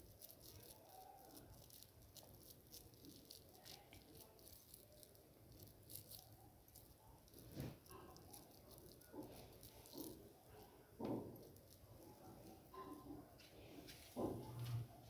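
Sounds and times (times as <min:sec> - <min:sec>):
fingers patting moist mixture: 0:00.0 - 0:14.9.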